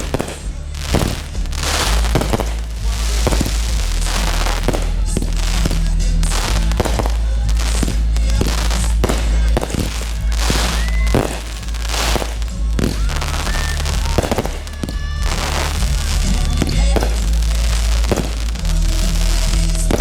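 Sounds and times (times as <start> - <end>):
fireworks bangs: 0.0 - 20.0
music with low bass: 0.0 - 20.0.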